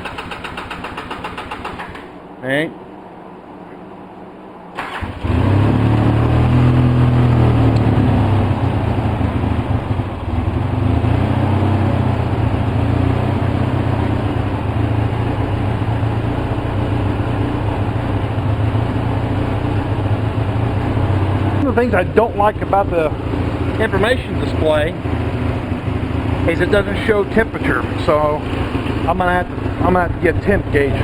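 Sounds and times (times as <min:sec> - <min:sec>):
atv engine running roughly: 0:00.0 - 0:02.1, 0:05.2 - 0:31.0.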